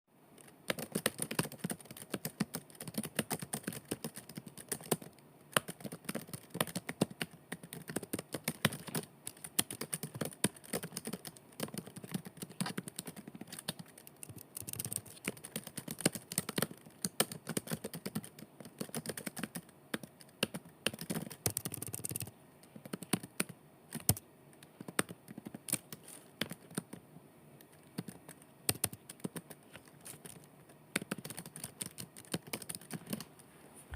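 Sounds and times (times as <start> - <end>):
fast keyboard typing: 0.4 - 27.0, 27.7 - 33.3.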